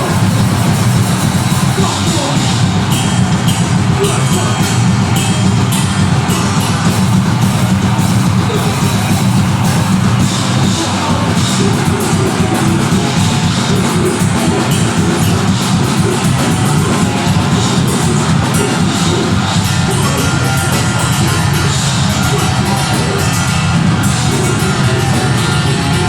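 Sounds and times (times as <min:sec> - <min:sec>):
distorted guitars and bass: 0:00.0 - 0:26.0
fast dense drumming: 0:00.0 - 0:26.0.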